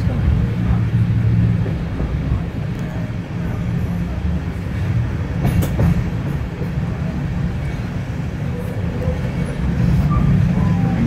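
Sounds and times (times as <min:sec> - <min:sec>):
train carriage rumbling on rails: 0:00.0 - 0:11.0.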